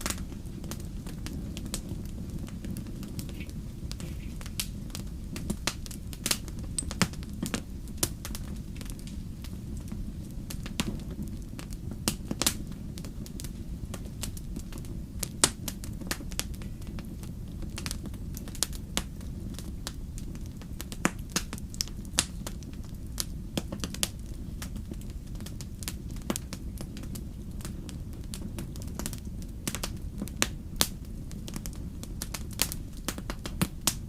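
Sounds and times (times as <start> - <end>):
logs crackling and popping: 0.0 - 34.0
wood fire rumbling: 0.0 - 34.0.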